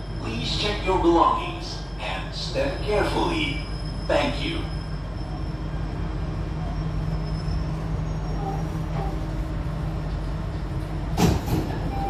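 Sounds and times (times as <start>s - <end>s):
metro train rumble inside car: 0.0s - 12.0s.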